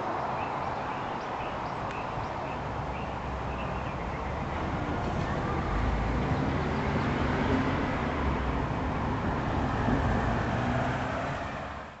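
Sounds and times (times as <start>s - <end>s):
cars driving along street: 0.0s - 12.0s.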